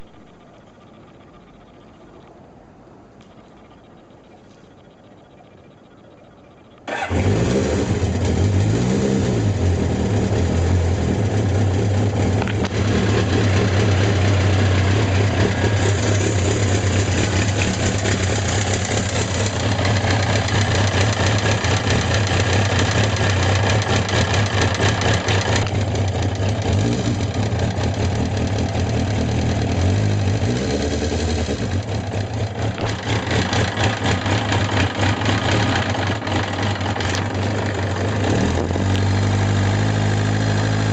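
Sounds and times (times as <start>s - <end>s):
motorcycle engine idling with rattling: 0.0s - 0.8s, 6.8s - 40.9s.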